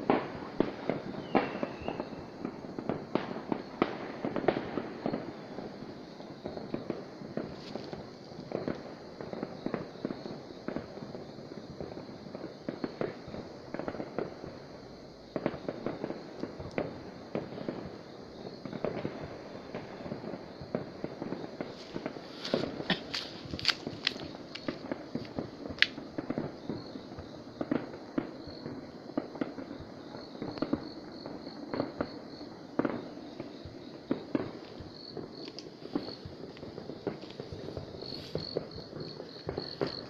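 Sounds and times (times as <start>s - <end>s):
fireworks bangs and pops: 0.0s - 40.0s.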